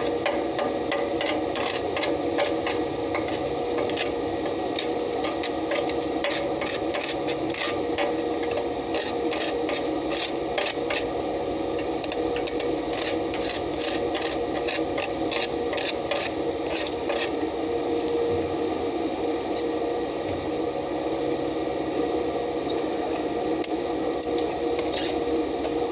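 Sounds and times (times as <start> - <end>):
welding arc crackling and sizzling: 0.0 - 25.9.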